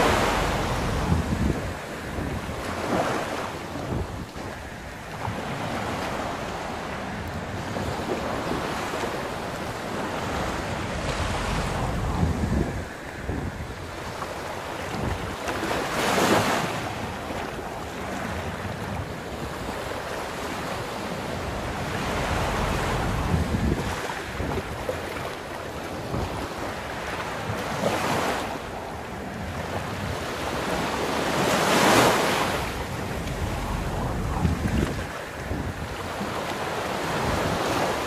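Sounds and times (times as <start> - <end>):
surf breaking on sandy beach: 0.0 - 38.0
wind buffeting microphone: 0.0 - 38.0.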